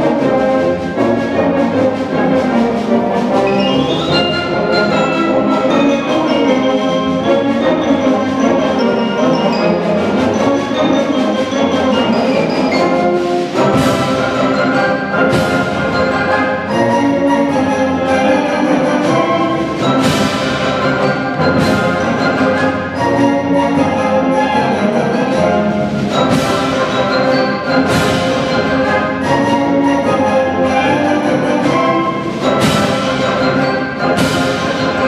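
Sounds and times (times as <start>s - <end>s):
concert band of clarinets and brass: 0.0s - 35.0s
xylophone fast runs: 3.5s - 35.0s.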